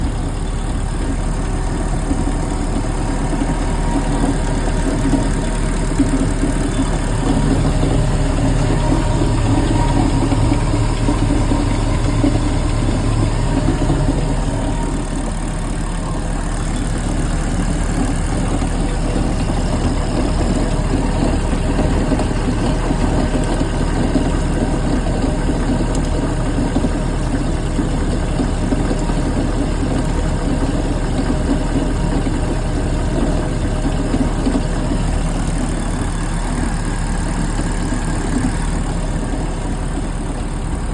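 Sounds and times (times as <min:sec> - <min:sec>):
boat engine running with grinding: 0:00.0 - 0:40.9.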